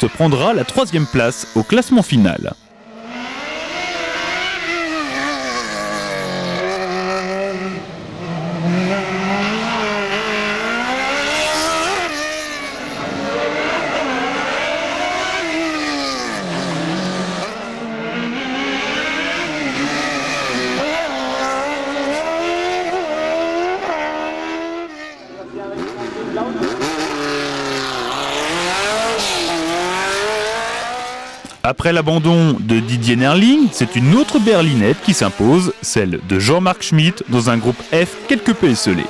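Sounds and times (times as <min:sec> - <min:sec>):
race car engine revving: 0:02.8 - 0:39.0.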